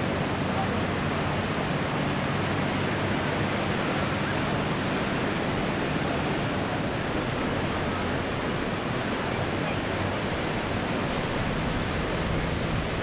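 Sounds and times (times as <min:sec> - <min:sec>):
aircraft engine roar overhead: 0:00.0 - 0:13.0.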